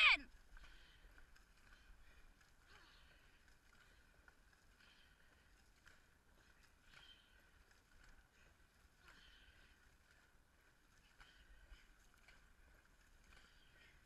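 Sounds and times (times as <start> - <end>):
paddles splashing in water: 0.0 - 14.0.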